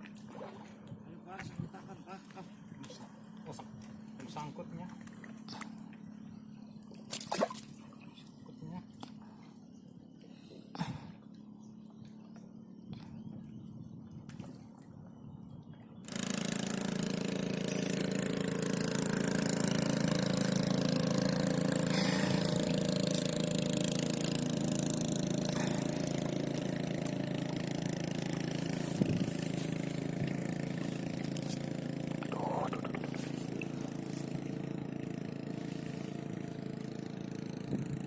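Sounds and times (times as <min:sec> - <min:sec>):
small engine running steadily: 0:00.0 - 0:38.0.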